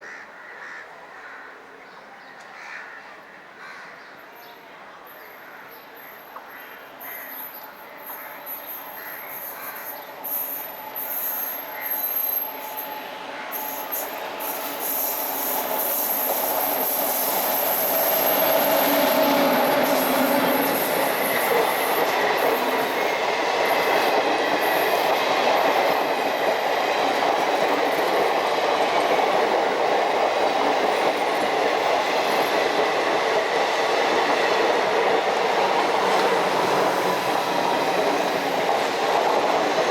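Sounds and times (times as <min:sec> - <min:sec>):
train rolling noise: 0:07.4 - 0:39.9.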